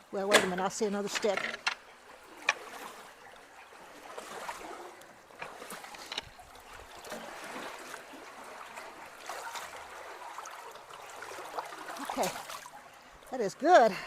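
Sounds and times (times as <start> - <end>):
creek water flowing: 0.0 - 14.0
light knocks and splashes: 0.1 - 13.3.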